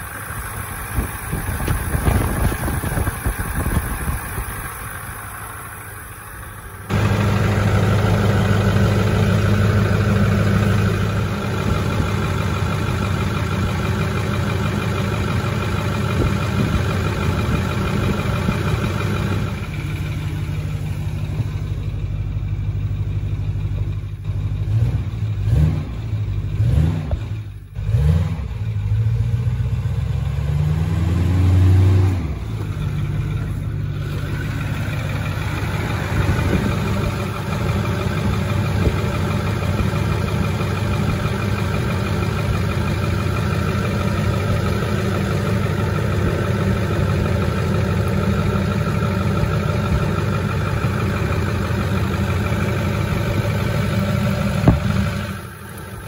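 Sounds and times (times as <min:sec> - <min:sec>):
diesel engine revving and idling: 0:00.0 - 0:56.0.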